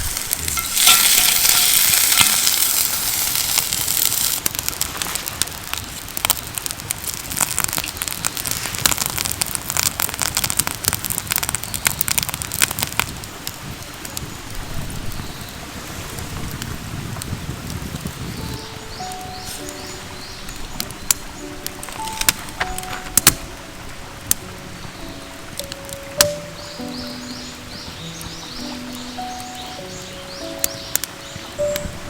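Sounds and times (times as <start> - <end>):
fire crackling and popping: 0.0 - 32.0
food sizzling over campfire: 0.0 - 32.0.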